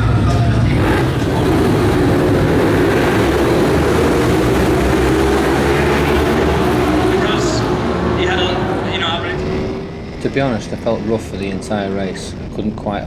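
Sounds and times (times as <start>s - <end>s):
race bike engines running: 0.0s - 13.0s.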